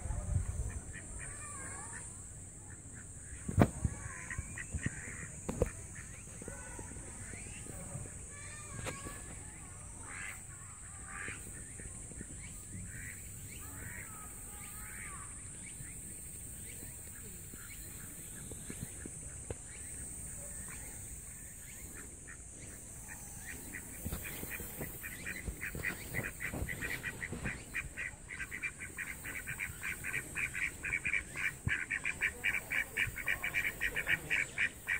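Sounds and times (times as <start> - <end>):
ducks quacking: 0.4 - 9.2, 9.8 - 16.0, 16.6 - 34.9.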